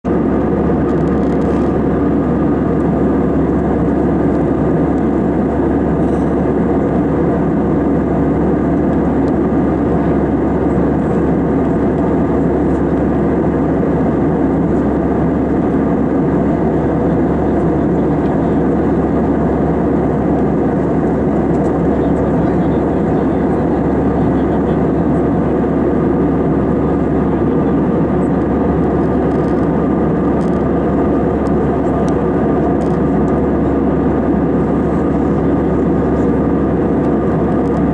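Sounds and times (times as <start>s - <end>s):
airliner cabin rumble: 0.0s - 37.9s.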